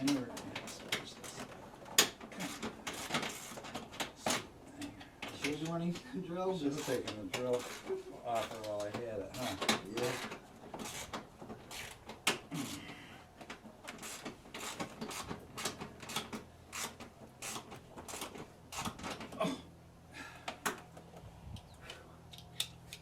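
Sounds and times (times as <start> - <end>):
hand tools clicking and knocking: 0.0 - 6.0, 6.8 - 19.4.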